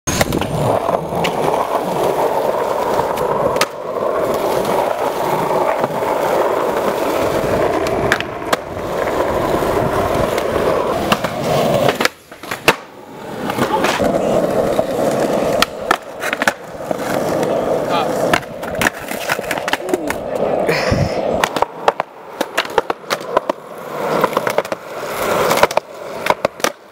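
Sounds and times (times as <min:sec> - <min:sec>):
skateboard clacks: 0:00.1 - 0:26.9
skateboard grinding on ledge: 0:00.1 - 0:26.9
skateboard wheels rolling on concrete: 0:00.1 - 0:26.9.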